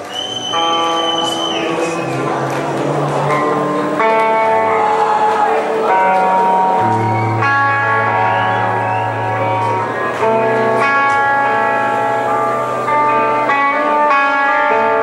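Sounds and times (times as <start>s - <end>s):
guitar chords ringing: 0.5s - 15.0s.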